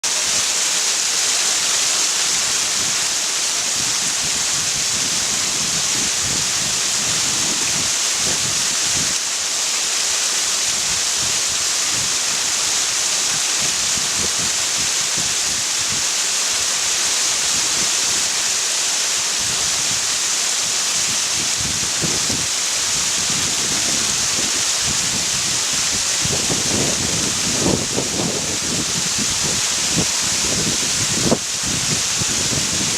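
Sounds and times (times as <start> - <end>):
waterfall hissing: 0.0 - 32.9
wind on microphone: 2.2 - 9.2, 10.5 - 18.4, 19.3 - 32.9.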